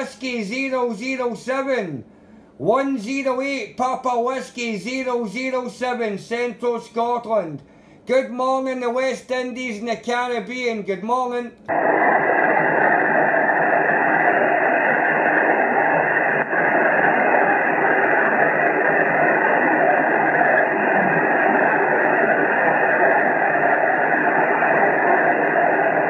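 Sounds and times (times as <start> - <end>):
radio band noise hiss: 0.0 - 26.0.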